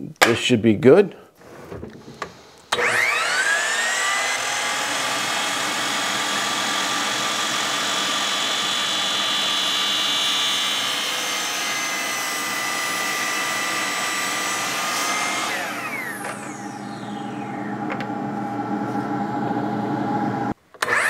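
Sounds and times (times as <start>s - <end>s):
miter saw cutting wood: 2.2s - 19.3s.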